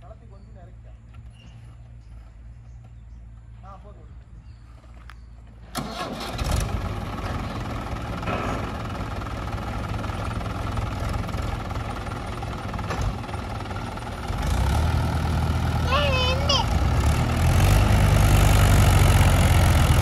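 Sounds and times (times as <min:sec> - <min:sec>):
tractor diesel engines under load: 0:00.0 - 0:20.0.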